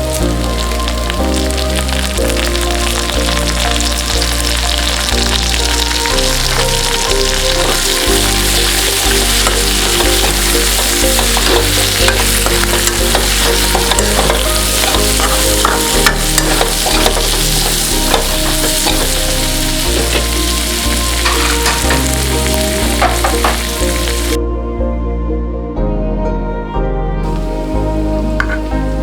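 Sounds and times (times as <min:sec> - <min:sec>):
food sizzling in a pan: 0:00.0 - 0:24.4, 0:27.3 - 0:29.0.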